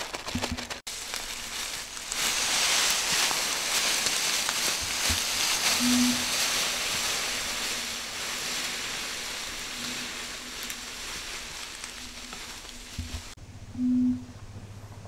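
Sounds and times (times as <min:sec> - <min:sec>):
dry leaves rustling and crunching: 0:00.0 - 0:13.4
footsteps on leaves: 0:00.0 - 0:13.4
carcass dragged over leaves: 0:00.9 - 0:13.4.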